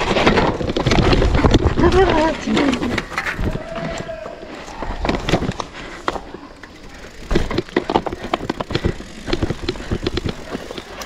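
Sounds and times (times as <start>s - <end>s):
bike rattling over bumps: 0.0s - 11.0s
bike tyres on loose dirt: 0.0s - 11.0s.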